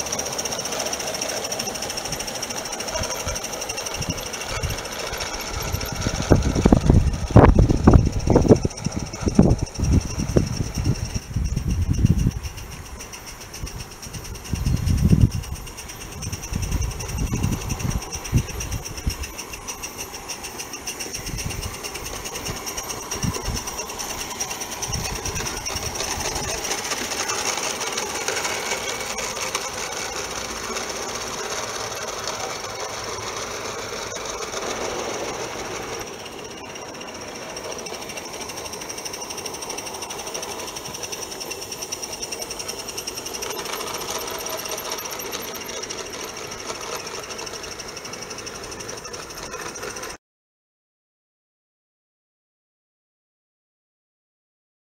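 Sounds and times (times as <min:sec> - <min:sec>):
steam engine exhaust beat: 0:00.0 - 0:50.2
wheel clicks: 0:00.0 - 0:50.2.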